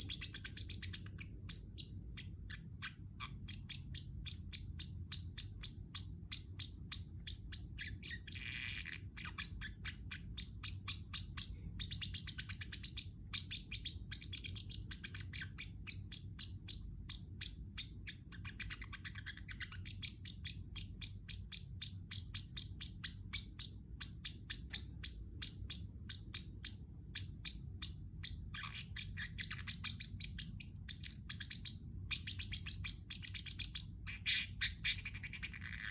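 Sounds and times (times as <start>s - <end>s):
parrotlet chirping: 0.0s - 35.9s.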